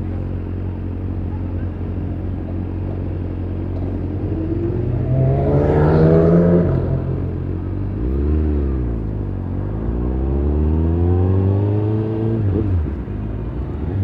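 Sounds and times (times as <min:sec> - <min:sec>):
low engine rumble: 0:00.0 - 0:14.0
engine accelerating: 0:02.7 - 0:14.0.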